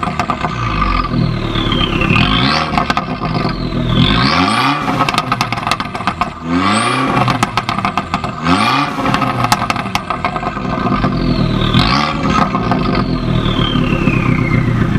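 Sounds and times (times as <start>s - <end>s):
car engine revving: 0.0s - 14.9s
exhaust pops and crackles: 0.0s - 14.9s.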